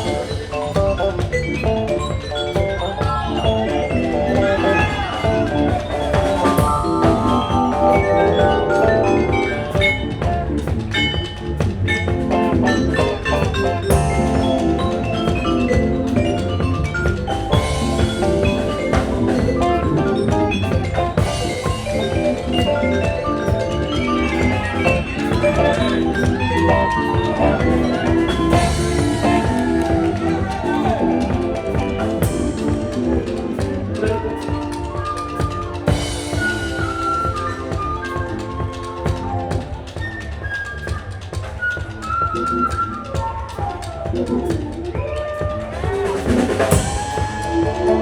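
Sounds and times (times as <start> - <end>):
music with steady beat: 0.0 - 48.0.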